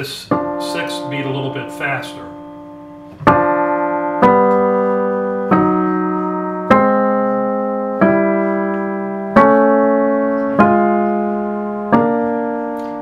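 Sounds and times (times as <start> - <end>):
piano playing two-note intervals: 0.0 - 13.0.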